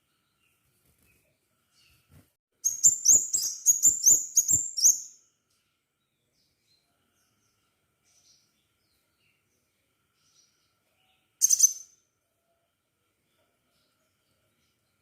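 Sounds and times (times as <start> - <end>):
bird chirping: 0.0 - 5.4, 6.0 - 15.0.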